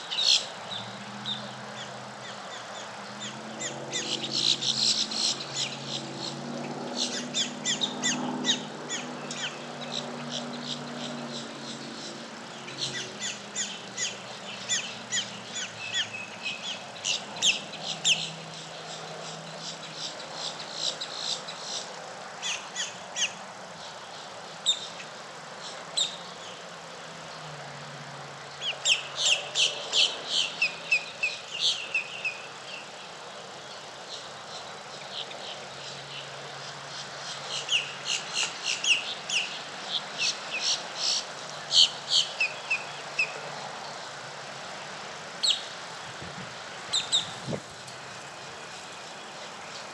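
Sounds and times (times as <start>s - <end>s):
songbirds chirping: 0.0s - 49.9s.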